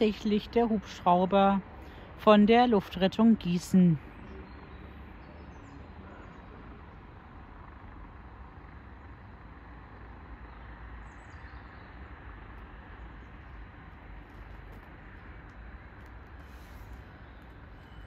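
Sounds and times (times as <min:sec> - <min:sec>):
distant trains rumbling: 0:00.0 - 0:18.0.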